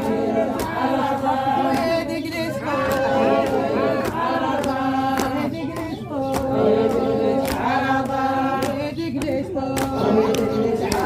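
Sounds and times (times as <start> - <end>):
woman chanting: 0.0 - 11.0.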